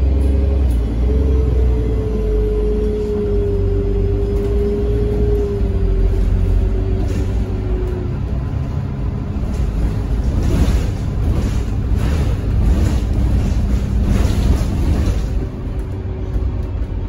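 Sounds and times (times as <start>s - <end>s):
bus engine drone: 0.0s - 17.0s
road rumble: 0.0s - 17.0s.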